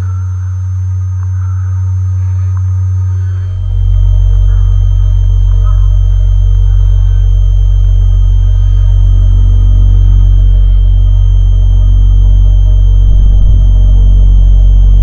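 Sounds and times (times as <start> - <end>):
deeper tone: 0.0 - 15.0
faint electronic blips: 0.0 - 15.0
low electronic drone: 0.0 - 15.0.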